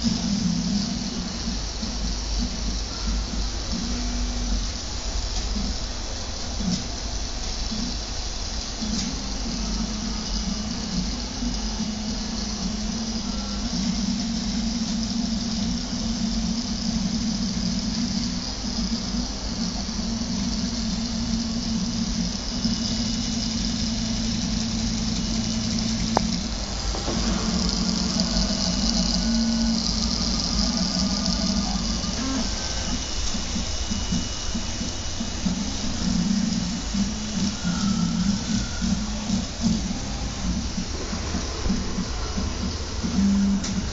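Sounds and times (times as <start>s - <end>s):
printer mechanical hum and hiss: 0.0s - 43.9s
stepper motors whining: 0.0s - 43.9s.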